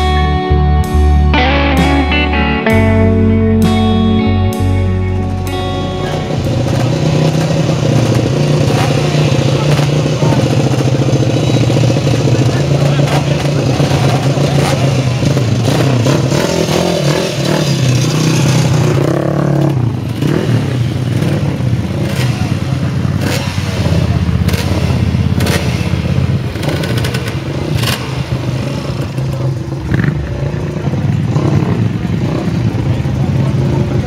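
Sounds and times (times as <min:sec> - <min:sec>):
motorcycle engines idling and revving: 0:00.0 - 0:34.0.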